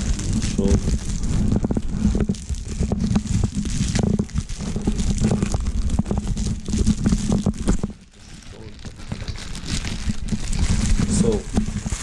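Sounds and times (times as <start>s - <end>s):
camera rubbing noise: 0.0s - 12.0s
plastic packaging crinkling: 0.0s - 12.0s.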